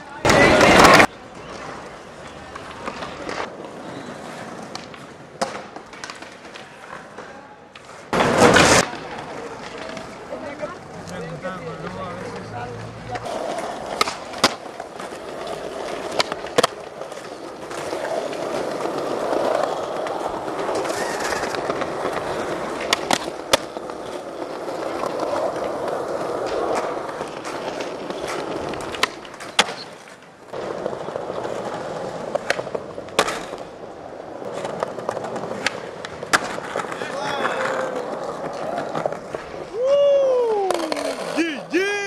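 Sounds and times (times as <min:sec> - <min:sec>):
skateboard wheels rolling: 0:00.0 - 0:42.0
skateboard clacks: 0:00.2 - 0:42.0.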